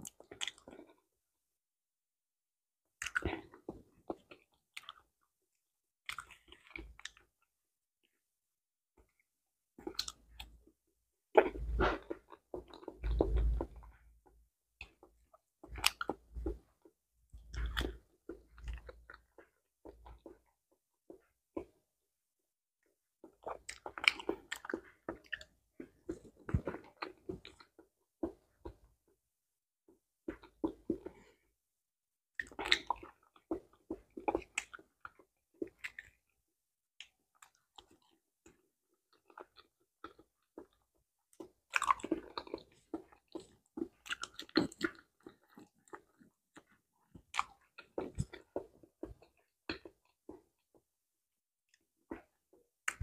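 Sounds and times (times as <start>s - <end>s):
chewing with wet mouth sounds: 0.0s - 1.1s, 3.0s - 5.3s, 6.0s - 7.5s, 9.8s - 10.7s, 11.4s - 21.8s, 23.2s - 29.0s, 30.2s - 31.4s, 32.3s - 36.4s, 37.0s - 50.9s, 51.7s - 53.0s.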